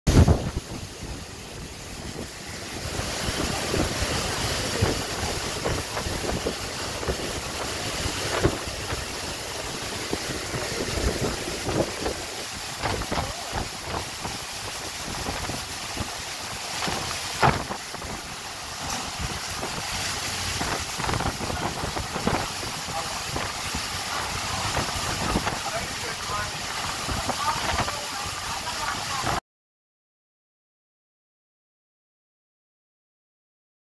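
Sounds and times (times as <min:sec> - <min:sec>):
wind buffeting microphone: 0:00.1 - 0:26.0, 0:26.7 - 0:29.4
storm wind gusting: 0:00.1 - 0:29.4
wind-driven rain: 0:00.1 - 0:29.4.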